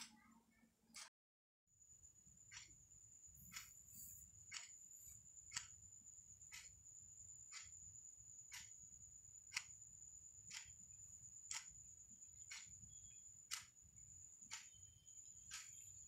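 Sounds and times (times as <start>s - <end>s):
clock ticking faintly: 2.3s - 16.0s.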